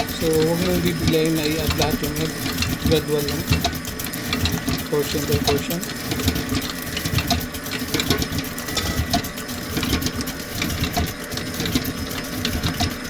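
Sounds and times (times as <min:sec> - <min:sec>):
beater clattering: 0:00.0 - 0:13.0
stand mixer motor whine: 0:00.0 - 0:13.0.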